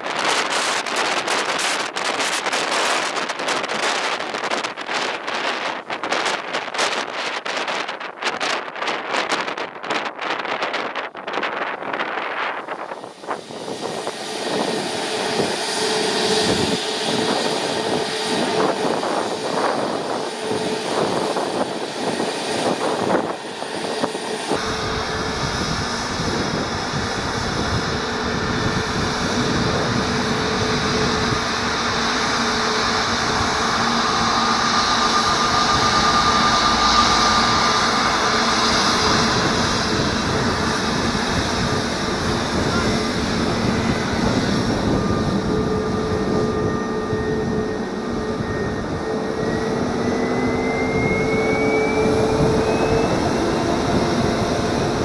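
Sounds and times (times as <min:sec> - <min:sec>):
high steady whine: 0:00.0 - 0:55.0
jet engines running at low power: 0:00.0 - 0:55.0.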